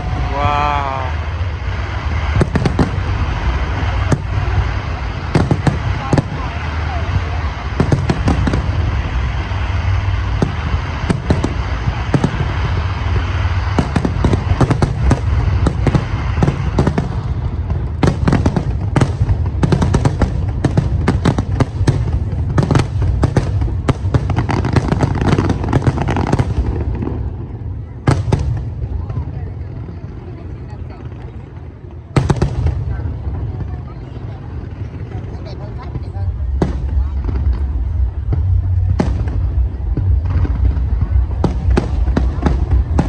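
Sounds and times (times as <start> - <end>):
fireworks bursts and bangs: 0.0 - 43.0
steady low rumble: 0.0 - 43.0.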